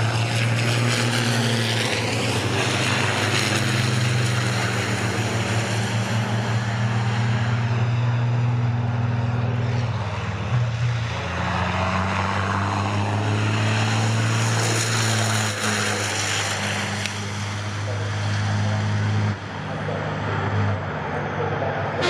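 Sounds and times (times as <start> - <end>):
diesel truck engines racing: 0.0 - 22.0.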